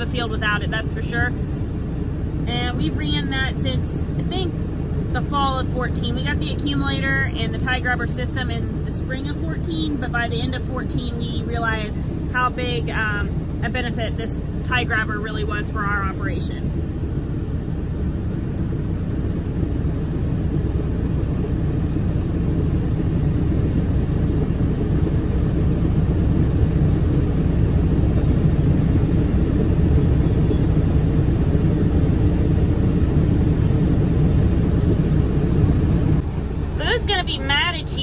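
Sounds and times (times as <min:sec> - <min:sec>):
low engine rumble: 0:00.0 - 0:38.0.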